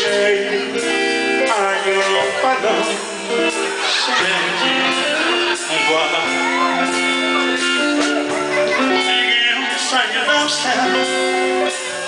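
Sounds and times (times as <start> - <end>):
slow ballad music with guitar: 0.0 - 12.0.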